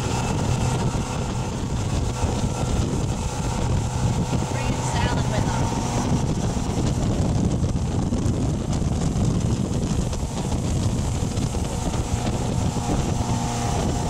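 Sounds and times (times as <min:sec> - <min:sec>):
boat motor running: 0:00.0 - 0:14.0
wind buffeting the microphone: 0:00.0 - 0:14.0.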